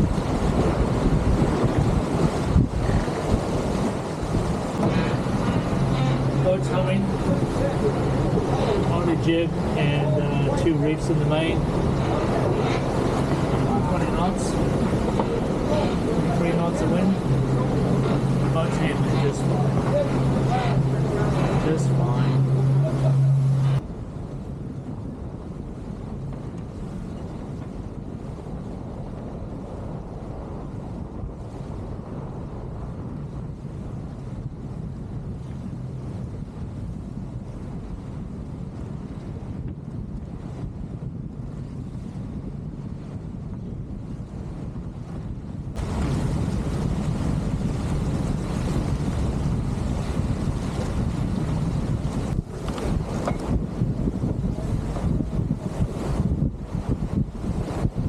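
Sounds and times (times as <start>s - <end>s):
water rushing past hulls: 0.0s - 58.0s
wind buffeting microphone: 0.0s - 58.0s.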